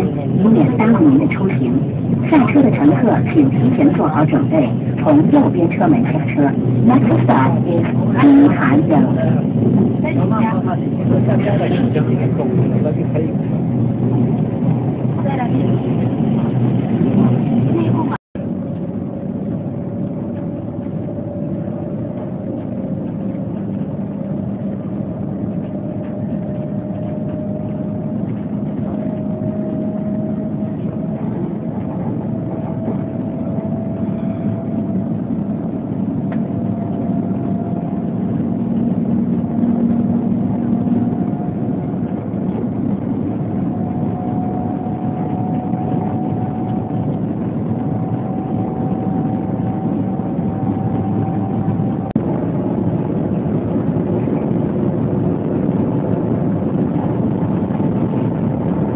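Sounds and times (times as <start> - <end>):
train cabin running hum: 0.0 - 58.9.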